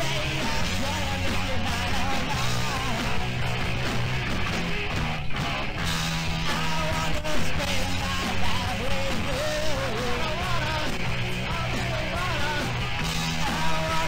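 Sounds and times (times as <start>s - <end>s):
bass line: 0.0s - 14.0s
electric guitar lead melody: 0.0s - 14.0s.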